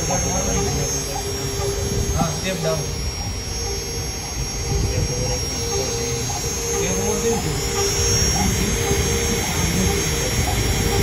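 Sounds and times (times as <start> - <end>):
engraving machine spindle whine: 0.0 - 11.0
humming tone: 0.0 - 11.0.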